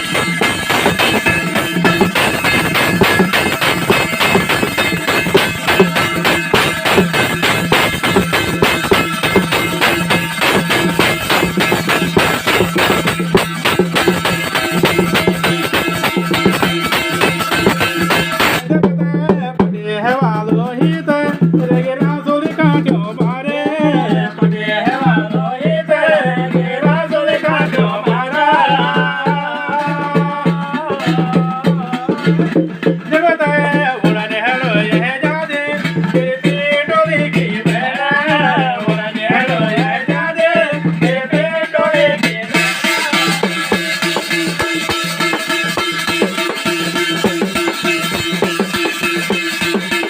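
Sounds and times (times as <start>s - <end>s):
drumming: 0.0s - 50.0s.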